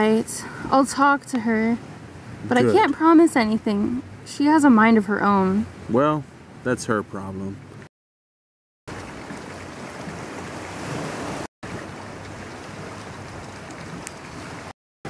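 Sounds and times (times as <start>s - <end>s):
outdoor background rush: 0.0s - 7.9s, 8.9s - 14.7s.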